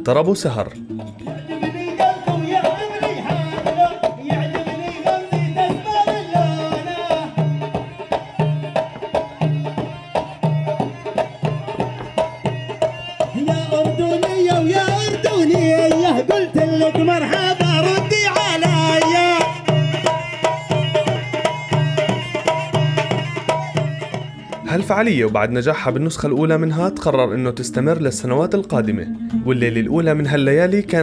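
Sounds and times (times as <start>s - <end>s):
drum beating steadily: 0.0s - 27.2s
wavering melody line: 0.0s - 30.4s.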